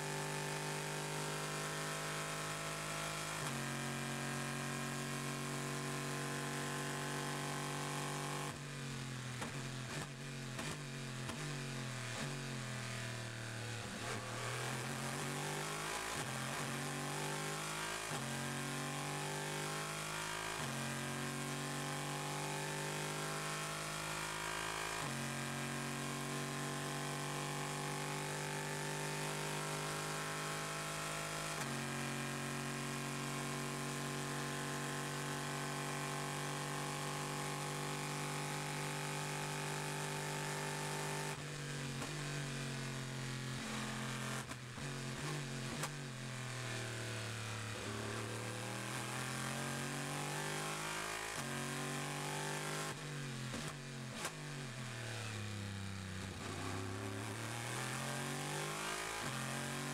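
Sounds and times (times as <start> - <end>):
race car engine at full throttle: 0.0 - 59.9.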